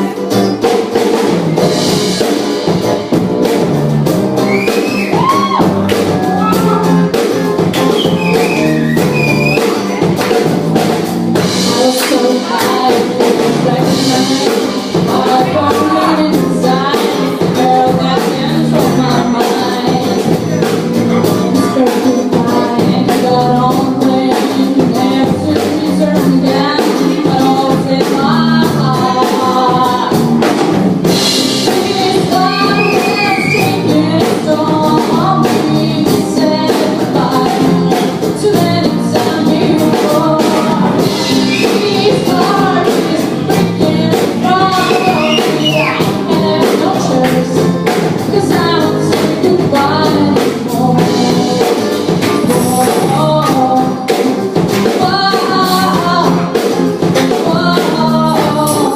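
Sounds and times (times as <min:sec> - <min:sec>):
drum kit: 0:00.0 - 0:58.9
person singing: 0:04.3 - 0:30.5, 0:31.3 - 0:58.9.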